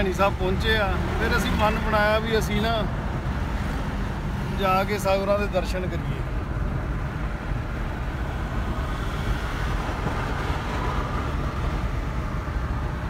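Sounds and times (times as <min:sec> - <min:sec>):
road rumble inside moving car: 0:00.0 - 0:13.0.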